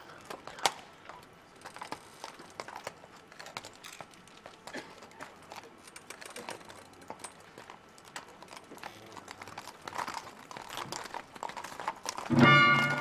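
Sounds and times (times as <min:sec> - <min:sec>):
horses' hooves clopping: 0:00.0 - 0:13.0.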